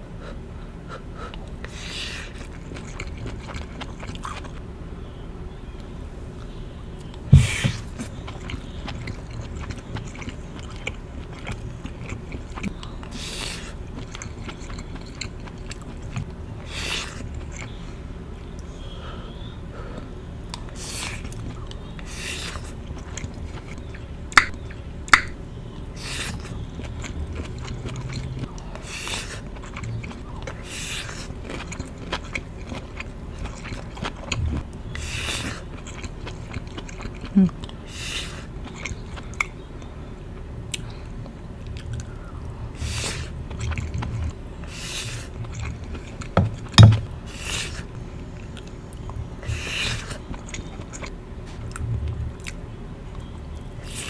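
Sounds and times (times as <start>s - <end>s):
person chewing food: 0.2s - 4.6s, 5.7s - 54.0s.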